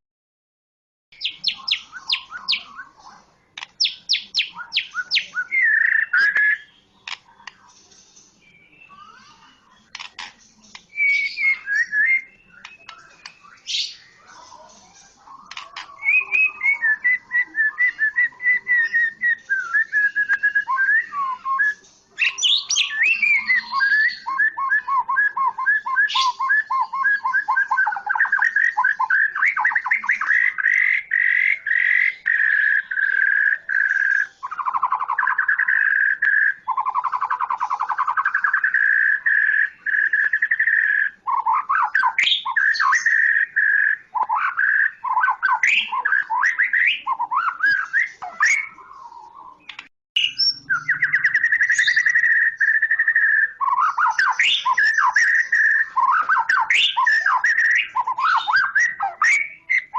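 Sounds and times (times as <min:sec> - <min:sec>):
bird singing whistled phrases: 0:01.2 - 0:07.5, 0:08.4 - 0:10.1, 0:10.8 - 0:14.4, 0:15.4 - 0:59.9.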